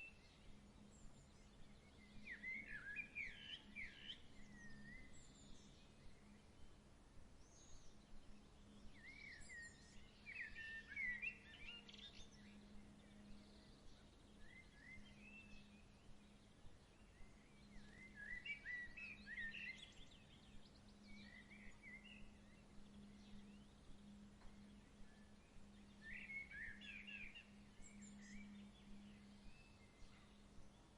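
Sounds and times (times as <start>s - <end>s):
faint songbirds chirping: 0.0s - 30.9s
low steady hum: 0.0s - 30.9s.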